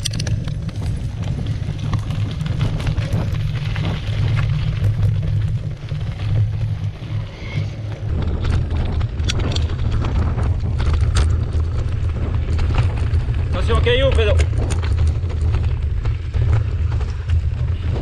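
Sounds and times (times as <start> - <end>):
bike clicking and rattling: 0.0 - 18.0
tyres rolling over dirt: 0.0 - 18.0
wind rushing over microphone: 0.0 - 18.0.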